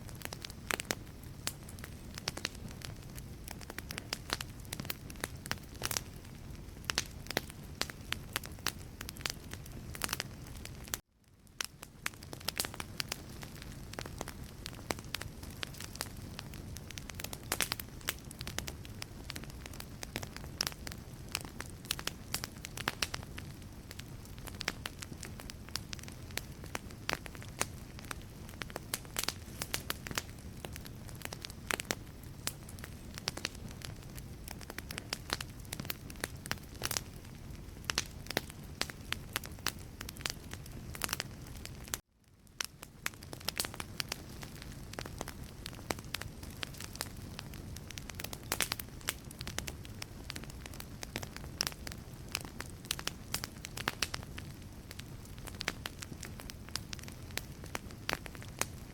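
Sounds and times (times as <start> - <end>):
low fire rumble: 0.0 - 58.9
wood crackling and popping: 0.0 - 58.9.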